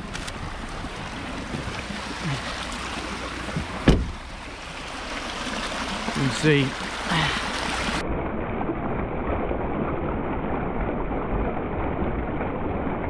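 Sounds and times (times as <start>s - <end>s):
water rushing down a ditch: 0.0s - 13.0s.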